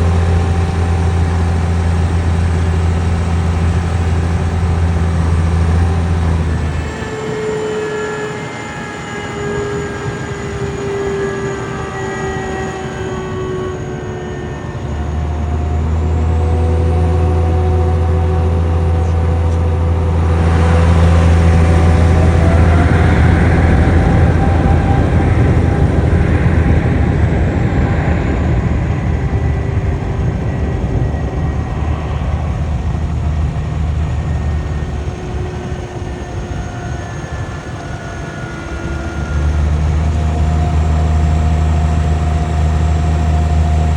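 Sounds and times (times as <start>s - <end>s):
deep jet rumble: 0.0s - 43.9s
jet engine whine: 0.0s - 43.9s.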